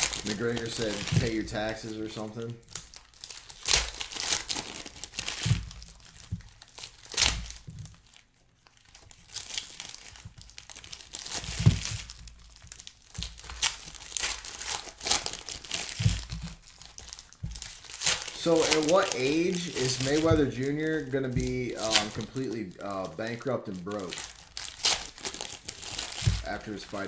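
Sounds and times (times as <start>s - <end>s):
wrappers being torn and crumpled: 0.0s - 27.0s.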